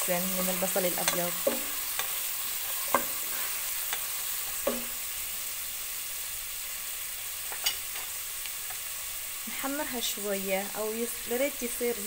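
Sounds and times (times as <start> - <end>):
onion sizzling in a pot: 0.0 - 12.0.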